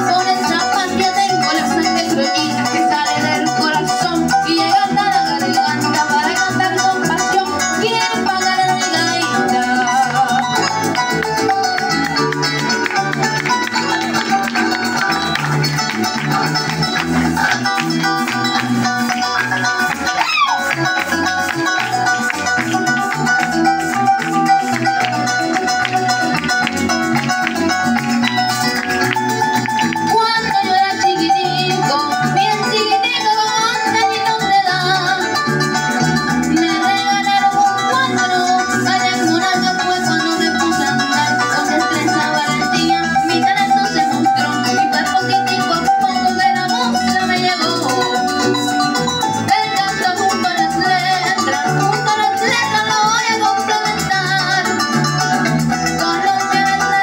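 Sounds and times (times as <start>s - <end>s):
cuatro strumming: 0.0s - 57.0s
maracas rattling: 0.0s - 57.0s.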